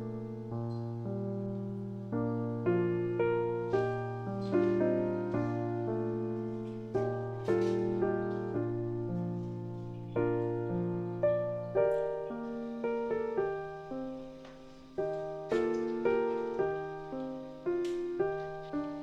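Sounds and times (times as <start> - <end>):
gentle solo piano music: 0.0 - 19.0.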